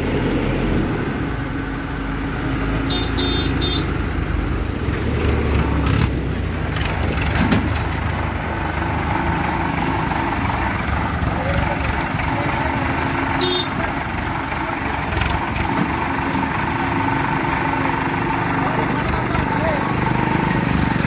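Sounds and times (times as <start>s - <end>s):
diesel engines idling: 0.0s - 21.0s.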